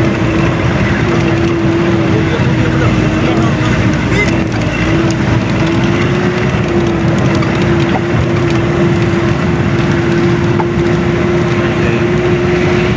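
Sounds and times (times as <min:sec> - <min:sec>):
rattling and crunching: 0:00.0 - 0:12.9
vehicle engine running: 0:00.0 - 0:12.9.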